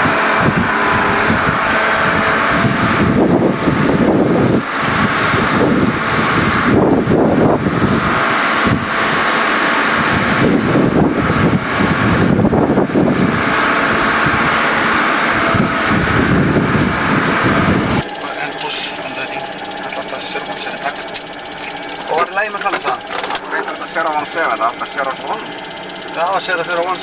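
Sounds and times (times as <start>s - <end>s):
jet engine and air noise: 0.0s - 27.0s.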